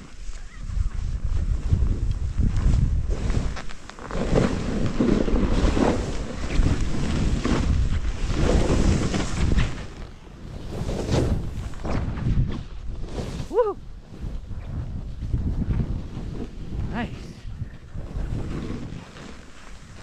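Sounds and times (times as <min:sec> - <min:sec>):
snow swishing under skis: 0:00.0 - 0:17.3, 0:18.0 - 0:20.0
wind on microphone: 0:00.0 - 0:20.0.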